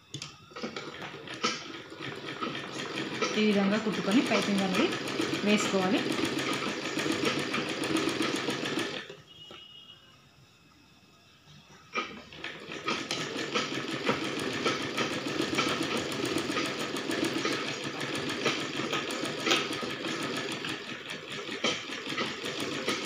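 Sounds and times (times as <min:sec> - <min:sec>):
sewing machine running: 0:00.6 - 0:09.1, 0:12.0 - 0:23.0.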